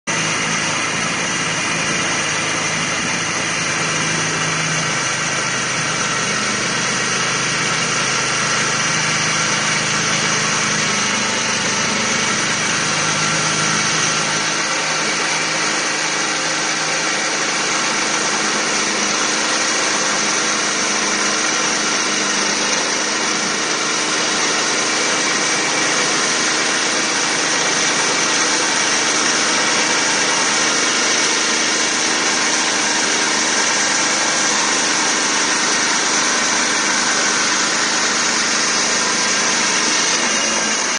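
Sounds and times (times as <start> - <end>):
sawmill cutting a log: 0.0 - 40.9.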